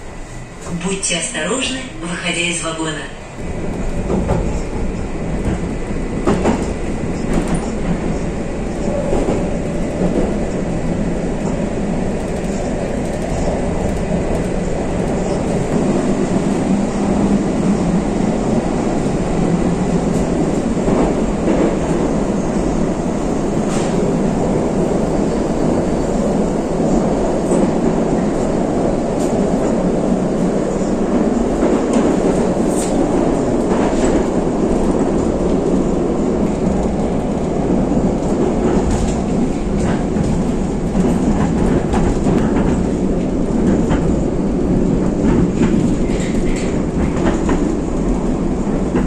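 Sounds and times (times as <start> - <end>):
train wheels rumbling on rails: 2.9 - 49.0.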